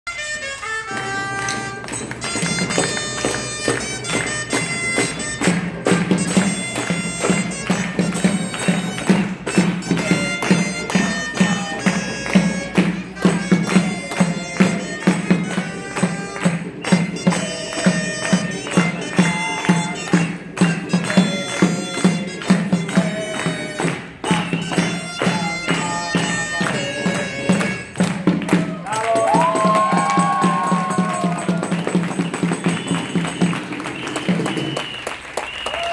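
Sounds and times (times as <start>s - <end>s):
reedy bagpipe-like wind instrument: 0.1s - 28.8s, 29.4s - 35.9s
driving drum beat: 2.2s - 35.0s.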